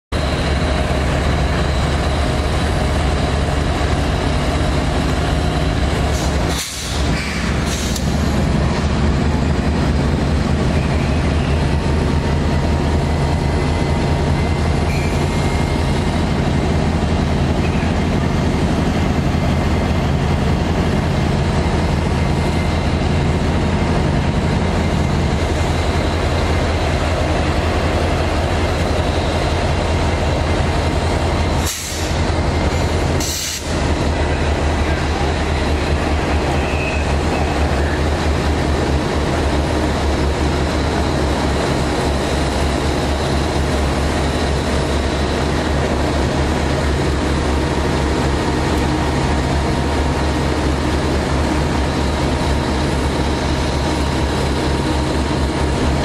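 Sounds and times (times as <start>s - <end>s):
diesel engine rumbling: 0.1s - 56.0s.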